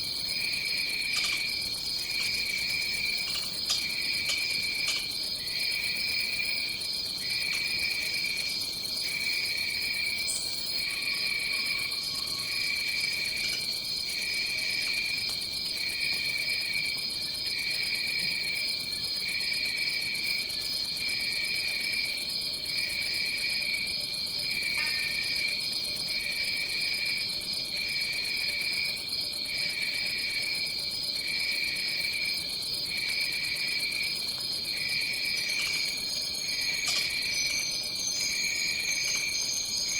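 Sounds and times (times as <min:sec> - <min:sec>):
high-pitched insect trill: 0:00.0 - 0:17.7, 0:18.4 - 0:39.9.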